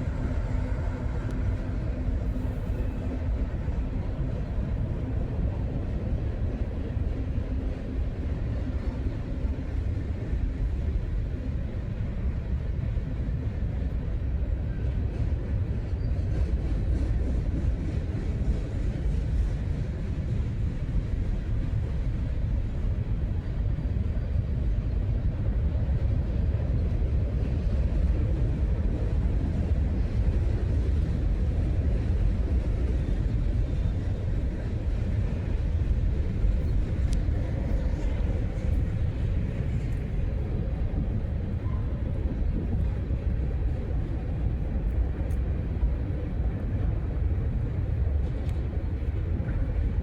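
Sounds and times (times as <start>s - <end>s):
freight train rumbling past: 0.0s - 50.0s.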